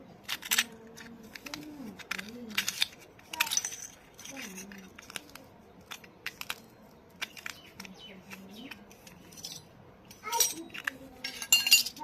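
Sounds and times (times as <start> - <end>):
clinking clatter: 0.2 - 12.0
small toy pieces clicking: 0.2 - 12.0.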